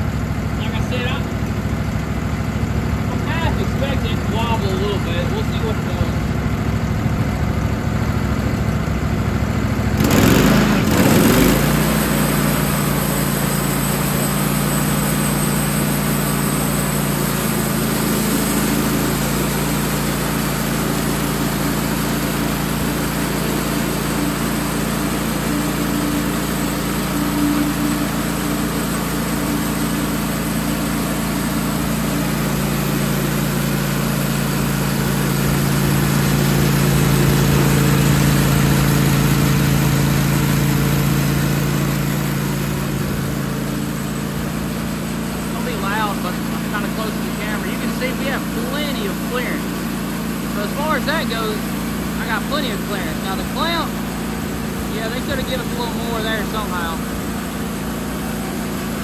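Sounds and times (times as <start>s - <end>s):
bandsaw sawmill cutting log: 2.7s - 6.6s, 9.4s - 59.0s.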